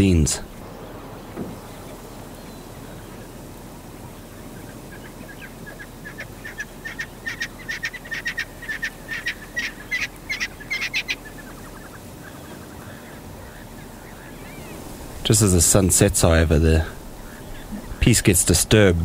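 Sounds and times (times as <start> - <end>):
bird rapid repeated calls: 0.0 - 18.7
steady background hiss: 0.0 - 19.0.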